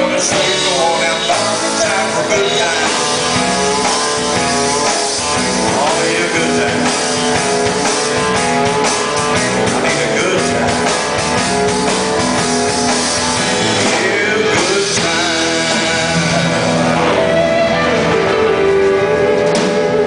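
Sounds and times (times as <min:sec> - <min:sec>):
country band playing live: 0:00.0 - 0:20.0
drum kit: 0:00.0 - 0:20.0
electric guitars: 0:00.0 - 0:20.0.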